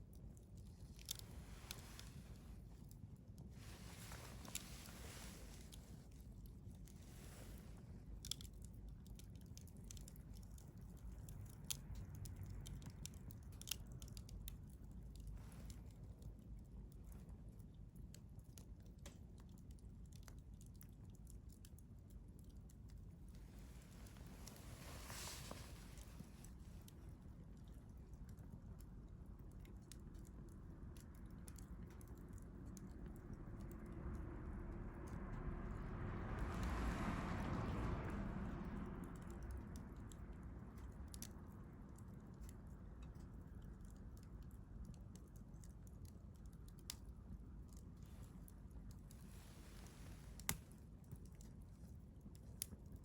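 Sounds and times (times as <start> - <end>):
campfire crackling and popping: 0.0 - 33.8, 36.4 - 53.0.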